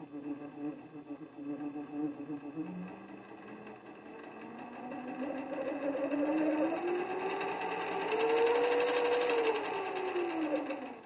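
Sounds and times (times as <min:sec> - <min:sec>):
mini lathe motor whine: 0:00.0 - 0:11.0.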